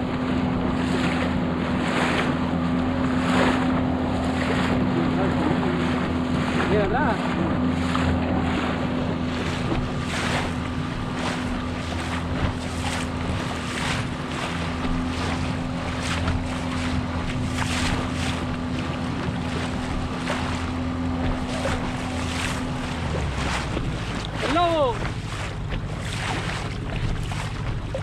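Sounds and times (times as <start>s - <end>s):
outboard motor running: 0.0s - 28.0s
water slapping against hull: 0.0s - 28.0s.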